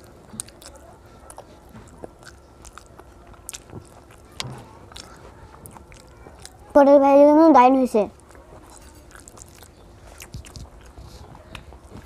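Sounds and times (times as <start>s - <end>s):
child chewing: 0.0s - 7.0s, 8.1s - 12.0s.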